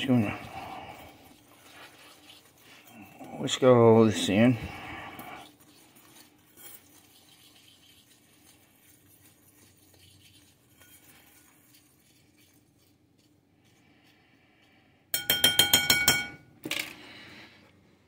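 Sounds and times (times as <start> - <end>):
whisk scraping in a bowl: 0.0 - 16.2.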